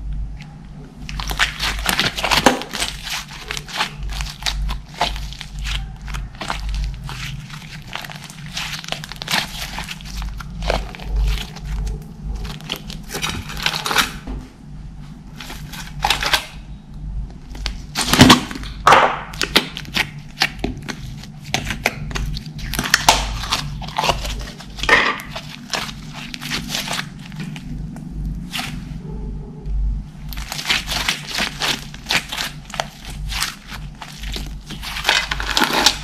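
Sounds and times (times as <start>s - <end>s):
slime squelching: 0.0s - 14.3s, 15.1s - 16.7s, 17.3s - 29.3s, 30.0s - 36.0s.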